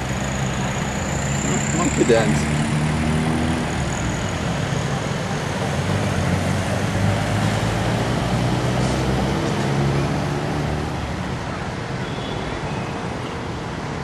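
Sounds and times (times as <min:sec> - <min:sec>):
traffic engines humming: 0:00.0 - 0:14.0.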